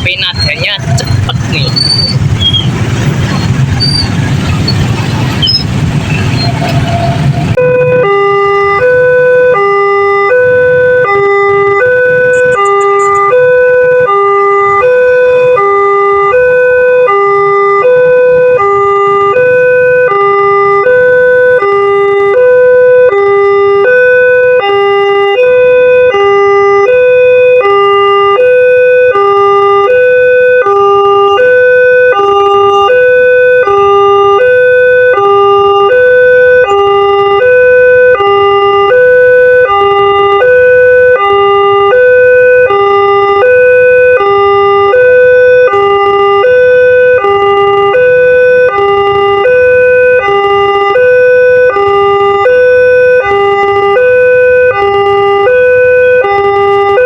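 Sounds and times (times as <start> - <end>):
level crossing warning siren: 0.0 - 57.0.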